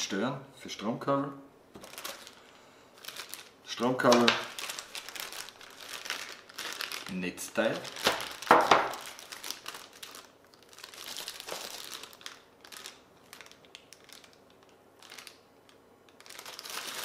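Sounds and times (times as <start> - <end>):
plastic bags crinkling: 1.8 - 17.0.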